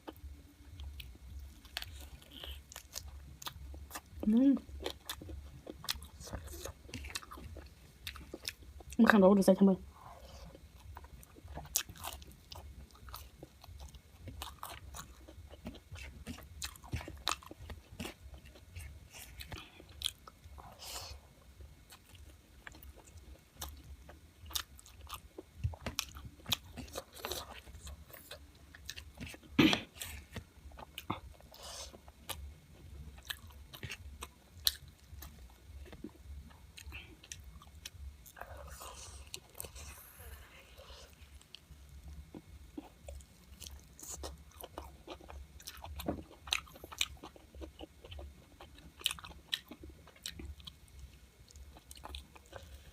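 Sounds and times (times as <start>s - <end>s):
person chewing food: 0.0s - 9.0s, 10.0s - 52.9s.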